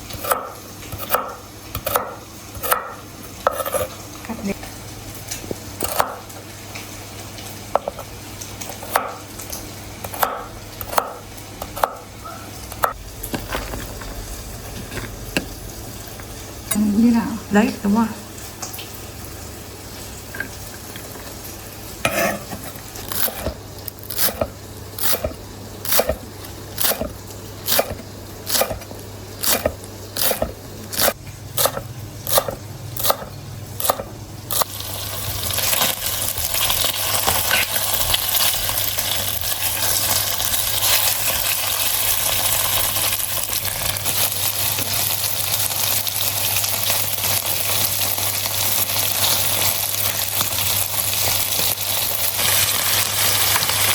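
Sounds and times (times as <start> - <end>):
food sizzling in frying pan: 0.0 - 53.9.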